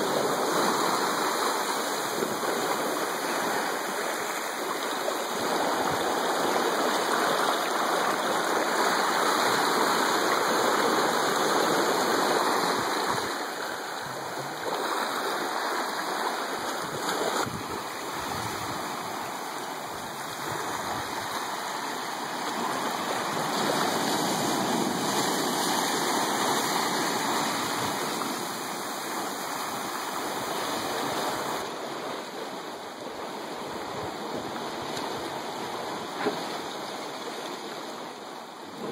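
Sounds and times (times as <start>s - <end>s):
small waves washing on shore: 0.0s - 38.9s.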